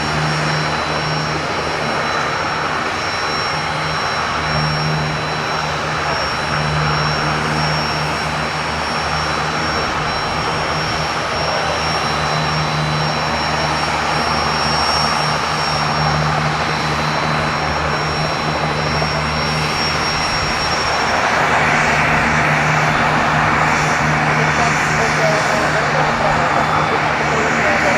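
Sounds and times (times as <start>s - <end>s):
turbine engine running: 0.0s - 27.9s.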